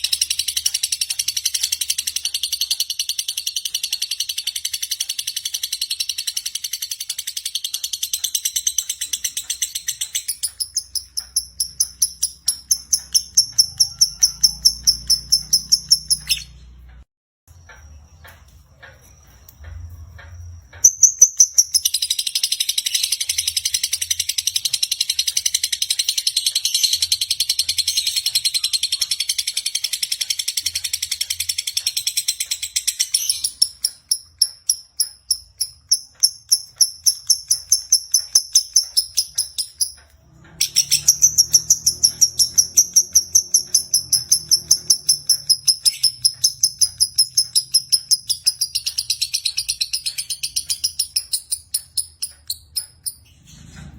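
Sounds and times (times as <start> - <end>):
lovebird chattering trill: 0.0 - 16.6, 20.8 - 40.0, 40.6 - 53.2.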